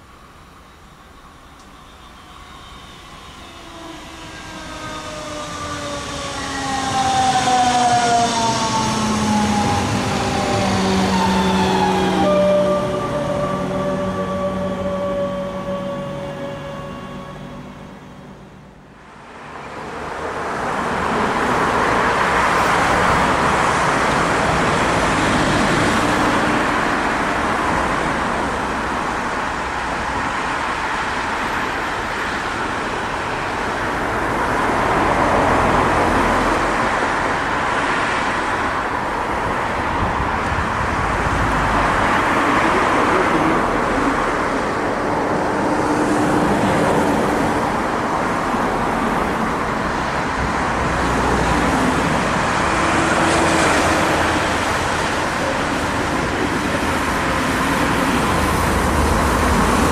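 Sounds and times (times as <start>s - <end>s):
cars passing on busy street: 0.0s - 59.9s.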